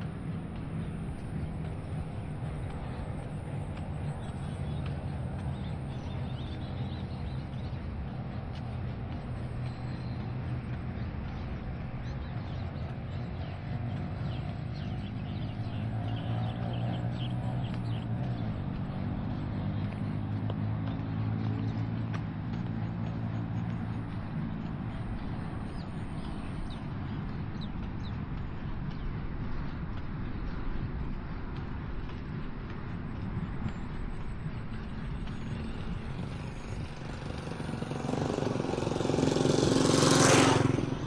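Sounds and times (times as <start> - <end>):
motor engine humming: 0.0 - 41.0.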